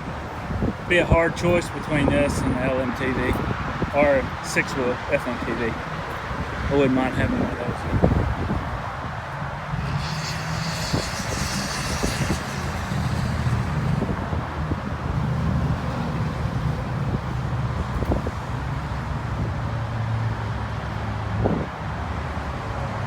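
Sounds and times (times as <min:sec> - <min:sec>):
wind noise: 0:00.0 - 0:19.8, 0:21.3 - 0:21.9.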